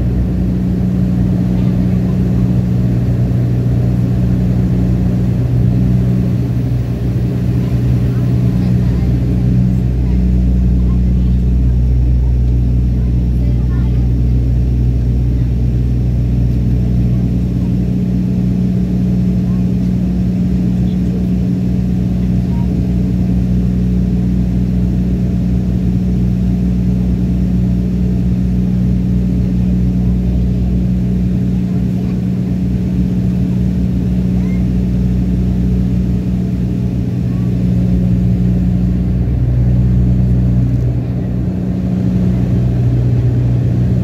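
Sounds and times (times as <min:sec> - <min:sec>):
propeller engine drone in cabin: 0:00.0 - 0:44.0.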